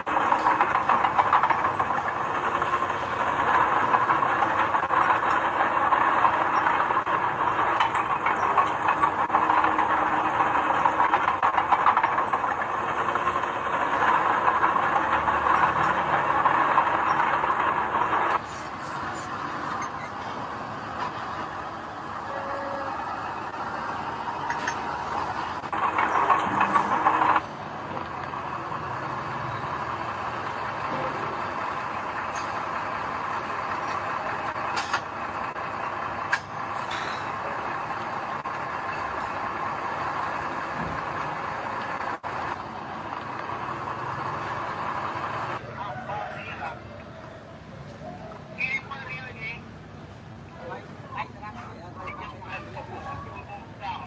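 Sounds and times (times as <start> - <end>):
heavy machinery rattling din: 0.0 - 54.0
quieter engine running: 0.0 - 54.0.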